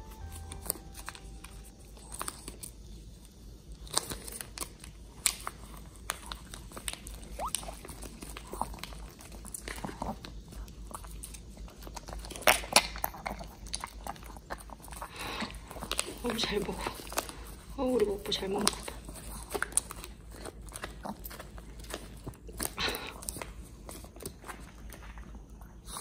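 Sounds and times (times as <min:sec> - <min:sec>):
dog licking and chewing: 0:03.7 - 0:17.7, 0:18.6 - 0:26.0.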